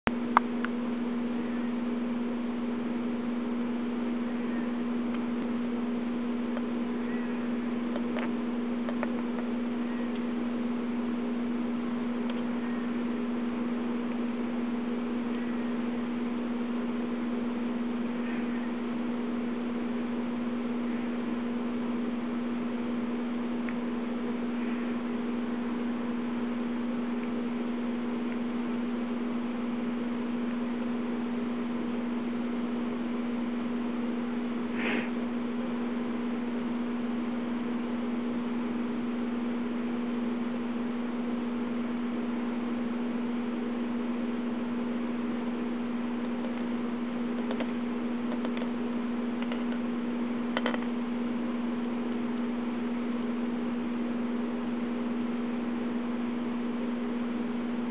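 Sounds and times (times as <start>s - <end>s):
low electrical hum: 0.1s - 57.9s.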